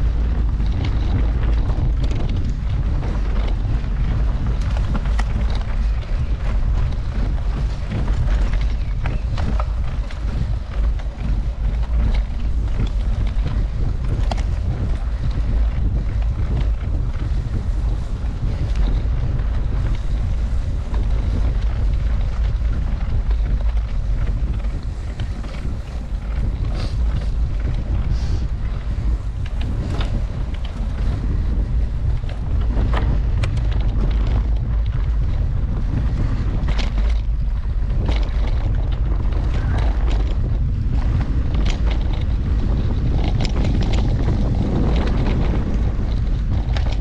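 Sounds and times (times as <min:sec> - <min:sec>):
bike clicking and rattling: 0:00.0 - 0:47.0
wind buffeting microphone: 0:00.0 - 0:47.0.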